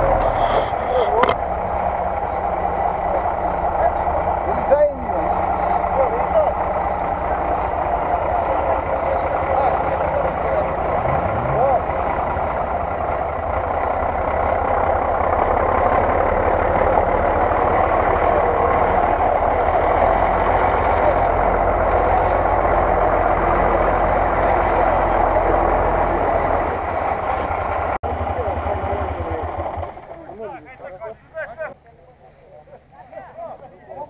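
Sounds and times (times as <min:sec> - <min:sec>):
truck engine at low revs: 0:00.0 - 0:32.9.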